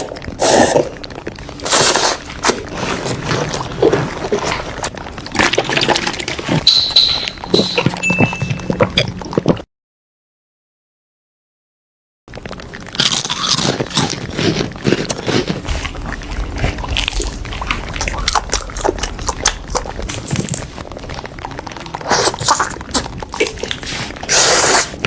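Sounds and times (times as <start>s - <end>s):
crisp batter crunching: 0.0s - 9.6s, 12.3s - 25.0s
wet mouth chewing sounds: 0.0s - 9.6s, 12.7s - 25.0s.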